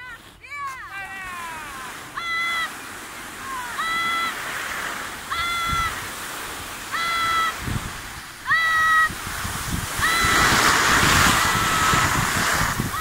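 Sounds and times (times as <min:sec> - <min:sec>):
skis sliding on snow: 0:00.0 - 0:13.0.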